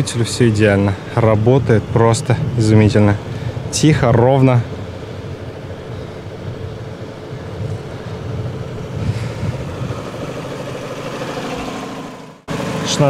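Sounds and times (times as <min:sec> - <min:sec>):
car engine idling: 0:00.0 - 0:13.0
wind on microphone: 0:01.0 - 0:11.6.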